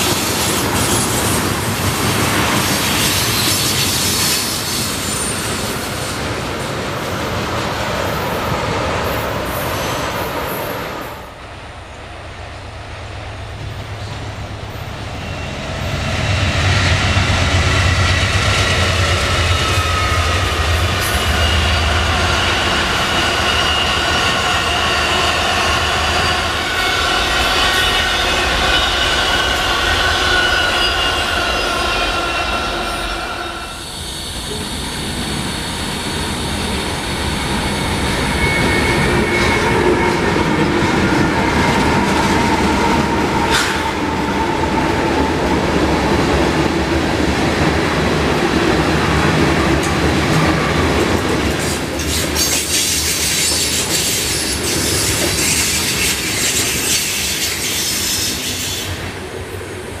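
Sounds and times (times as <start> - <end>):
railcar wheels squealing: 0.0 - 6.7, 13.7 - 45.4, 49.1 - 59.2
train cars rumbling and rattling: 0.0 - 60.0.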